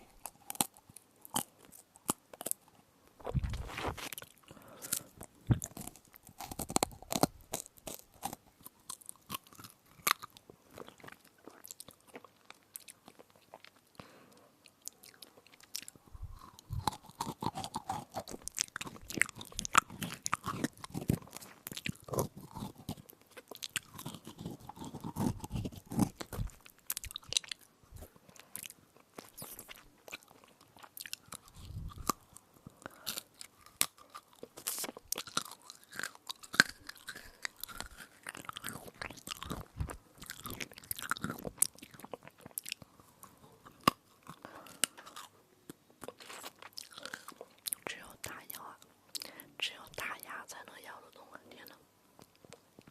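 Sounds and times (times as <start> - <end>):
crunchy chewing: 0.0 - 50.1.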